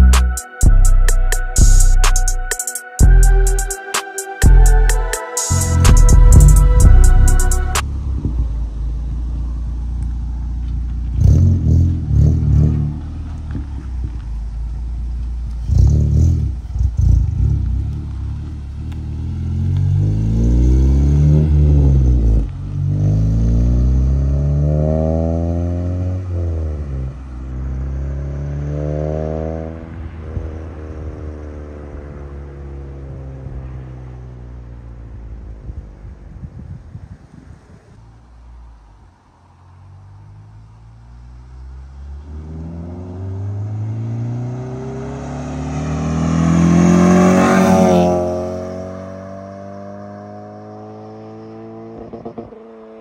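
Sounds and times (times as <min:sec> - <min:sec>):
car engine revving: 0:04.4 - 0:35.5, 0:39.5 - 0:53.0
car accelerating away: 0:04.8 - 0:36.1, 0:38.4 - 0:53.0.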